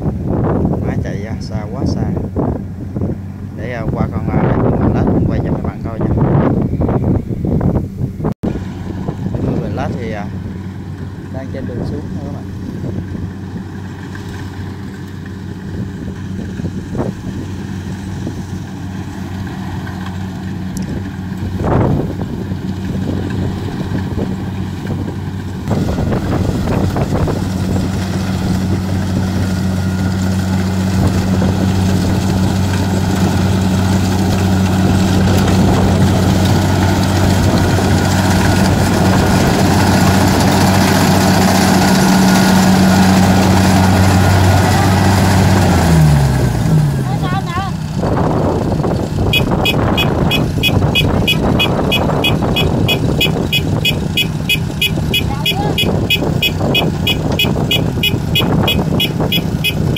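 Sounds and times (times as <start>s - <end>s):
combine harvester engine humming: 0.0s - 59.9s.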